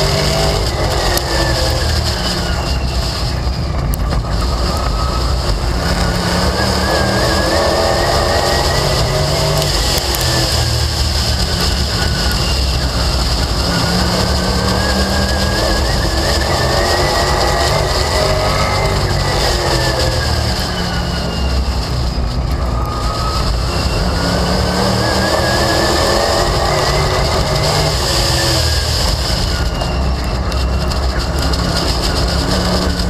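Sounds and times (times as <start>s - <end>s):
racing car engine: 0.0s - 33.0s
rushing wind noise: 0.0s - 33.0s.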